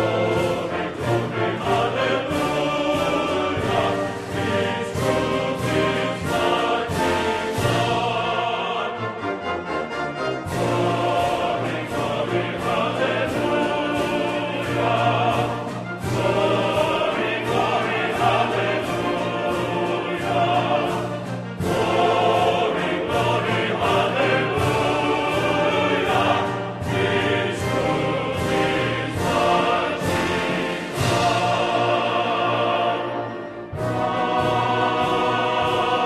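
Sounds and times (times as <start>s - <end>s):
choir singing with orchestra: 0.0s - 36.0s.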